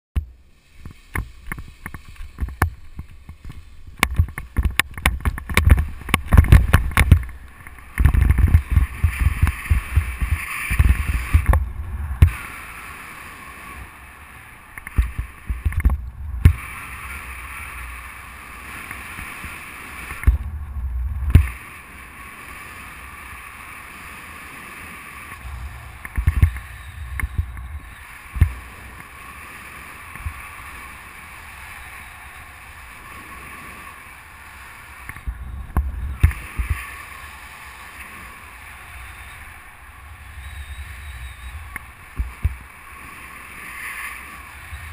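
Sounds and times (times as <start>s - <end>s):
wind buffeting microphone: 0.8s - 44.9s.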